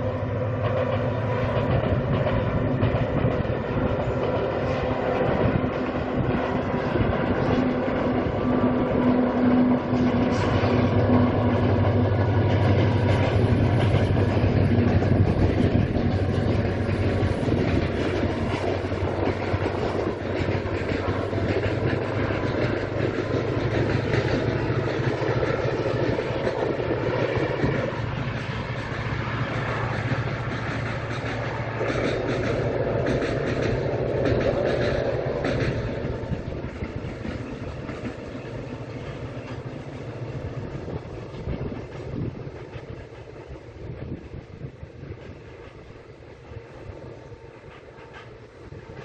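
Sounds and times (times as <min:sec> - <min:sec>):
train wheels clattering on rails: 0:00.0 - 0:49.0.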